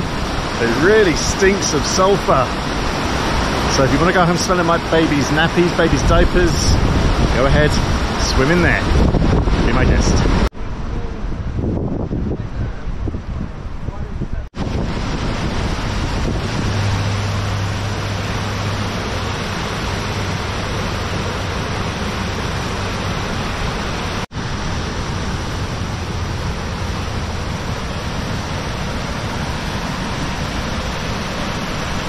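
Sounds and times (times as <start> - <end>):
river water rushing over rocks: 0.0 - 10.9, 14.6 - 32.0.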